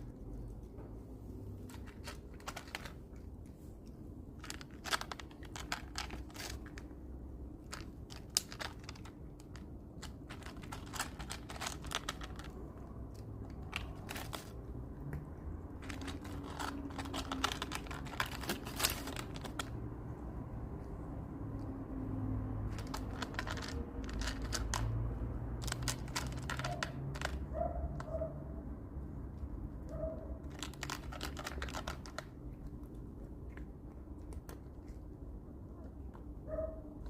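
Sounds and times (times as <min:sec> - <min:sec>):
cat crunching dry food: 0:00.0 - 0:28.1, 0:29.0 - 0:36.4.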